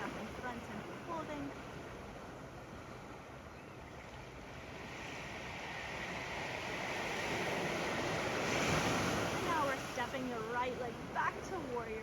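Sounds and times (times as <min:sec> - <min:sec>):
ocean waves washing on sand: 0:00.0 - 0:12.0.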